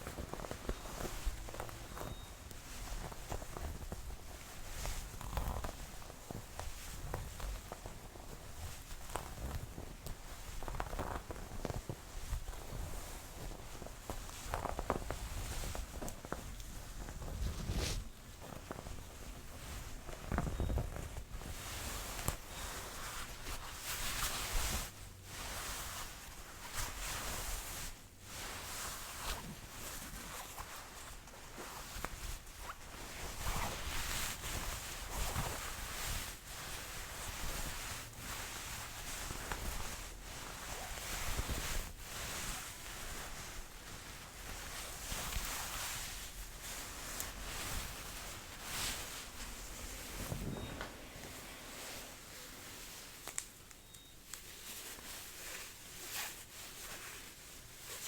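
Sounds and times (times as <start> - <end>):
jacket fabric rustling: 0.0 - 58.0.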